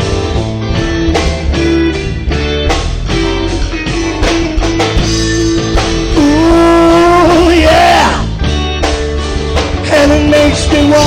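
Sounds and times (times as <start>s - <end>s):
live rock band playing: 0.0s - 11.0s
strummed guitar chords: 0.0s - 11.0s.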